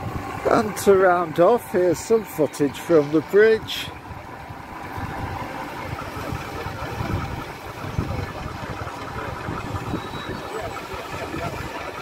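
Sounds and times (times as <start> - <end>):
small diesel engine running: 0.0 - 12.0.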